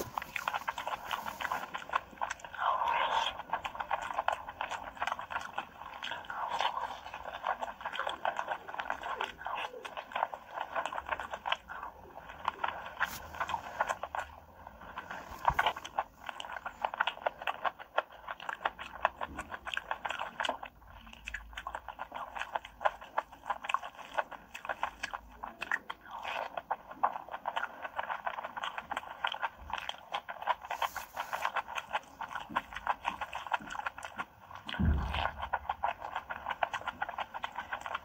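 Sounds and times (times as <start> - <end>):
wet chewing and lip-smacking: 0.0 - 38.0.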